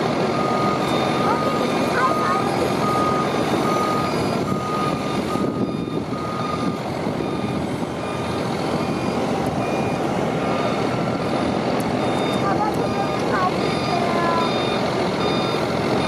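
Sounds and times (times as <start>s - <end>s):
truck engine running: 0.0s - 16.0s
truck reversing alarm beeping: 0.0s - 16.0s.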